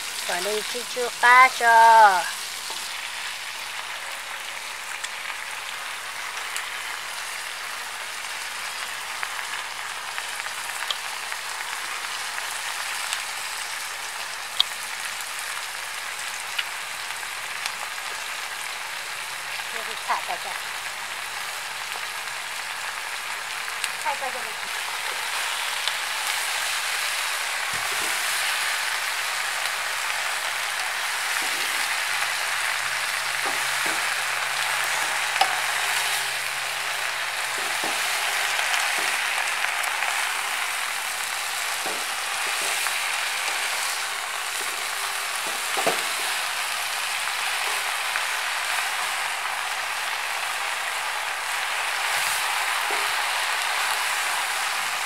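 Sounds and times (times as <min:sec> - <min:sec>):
vegetables sizzling in a wok: 0:00.0 - 0:55.0.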